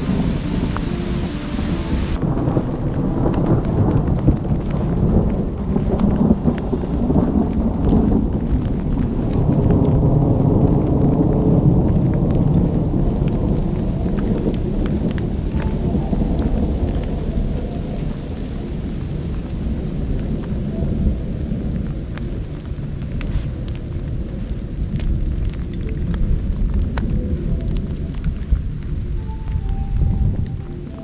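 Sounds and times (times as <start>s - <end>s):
rain falling: 0.0s - 31.0s
raindrop ticks: 0.0s - 31.0s
thunder rumbling: 0.0s - 31.0s.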